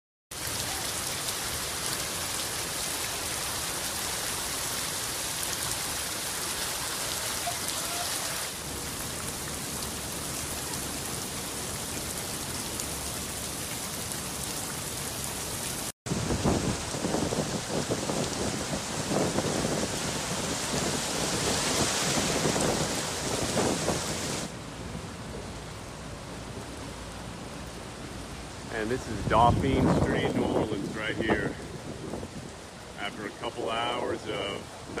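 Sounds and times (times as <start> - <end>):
heavy rain on standing water: 0.3 - 35.0.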